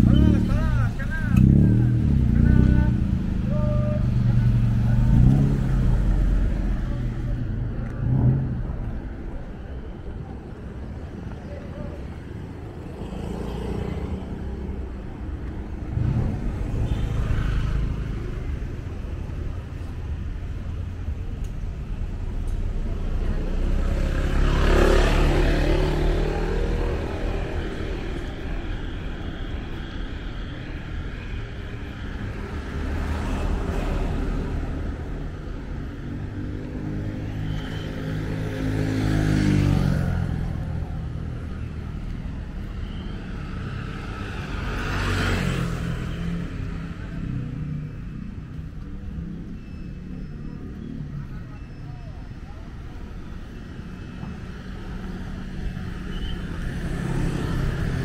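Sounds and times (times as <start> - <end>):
low traffic rumble: 0.0 - 58.0
vehicles passing close by: 0.0 - 58.0.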